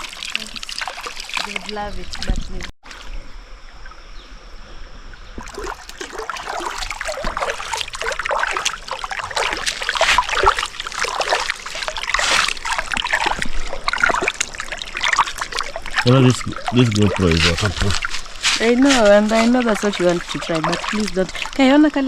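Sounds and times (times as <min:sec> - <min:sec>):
river water splashing and trickling: 0:00.0 - 0:04.6, 0:05.2 - 0:22.0.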